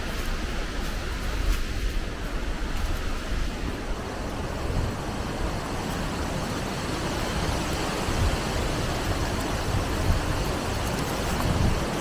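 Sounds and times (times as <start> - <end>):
wind buffeting microphone: 0.0 - 12.0
wind through trees: 0.0 - 12.0.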